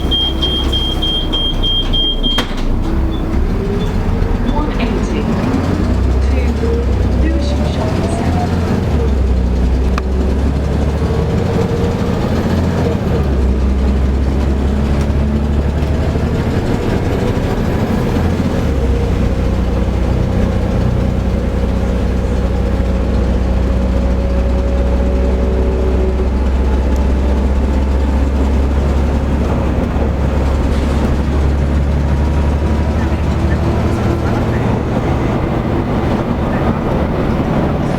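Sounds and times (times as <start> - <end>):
bus diesel engine drone: 0.0 - 37.9
drivetrain whine: 0.0 - 37.9.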